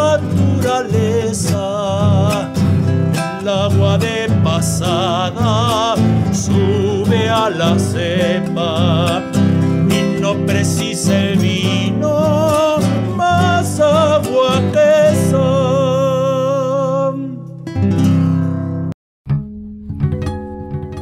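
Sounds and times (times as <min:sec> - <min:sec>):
man singing with vibrato: 0:00.0 - 0:17.6
classical guitars playing: 0:00.0 - 0:21.0.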